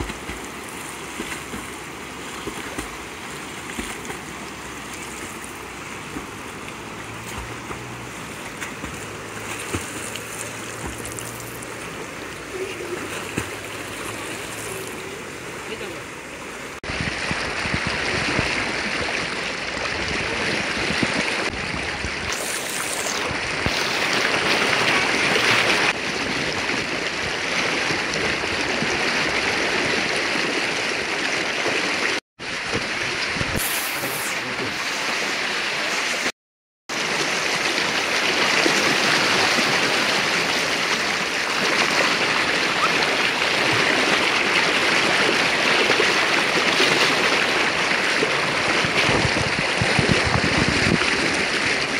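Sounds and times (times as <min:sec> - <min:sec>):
river water flowing: 0:00.0 - 0:36.3, 0:36.9 - 0:51.9.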